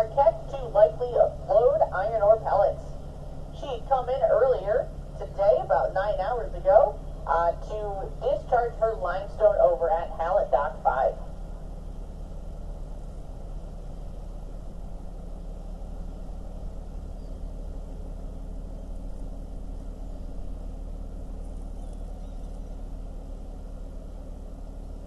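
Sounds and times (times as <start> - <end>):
low diesel engine drone: 0.0 - 25.0.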